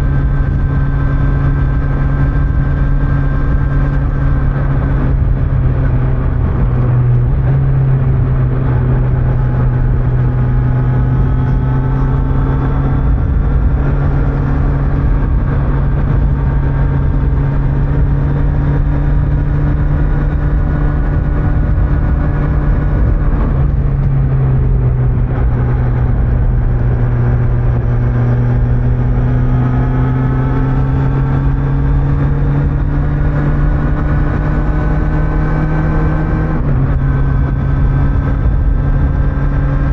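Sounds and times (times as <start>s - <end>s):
motorcycle engine cruising: 0.0s - 39.9s
road rumble: 0.0s - 39.9s
wind: 0.0s - 39.9s.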